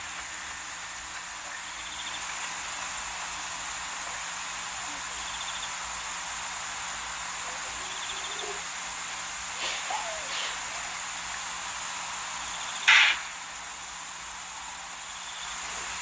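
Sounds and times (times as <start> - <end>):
crickets hissing: 0.0 - 16.0.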